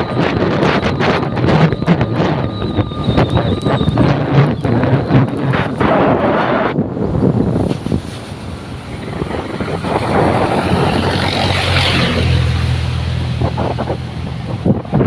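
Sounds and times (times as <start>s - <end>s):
low engine hum: 0.0s - 15.0s
wind on microphone: 0.0s - 15.0s.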